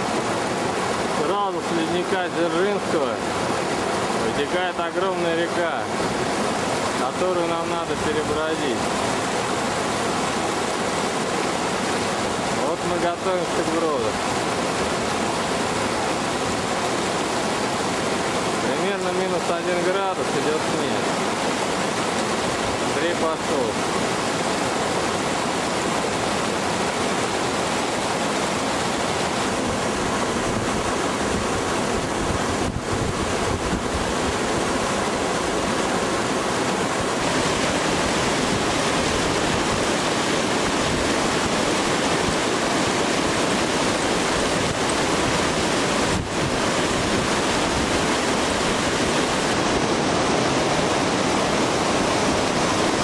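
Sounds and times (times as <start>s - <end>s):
river rushing over boulders: 0.0s - 53.0s.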